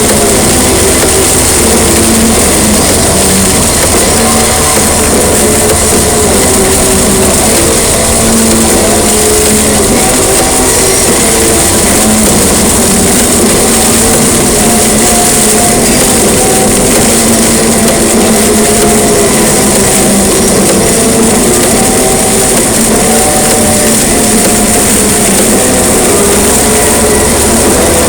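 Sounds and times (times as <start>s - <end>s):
heavy rain pouring: 0.0s - 28.0s
slow held musical notes: 0.0s - 28.0s.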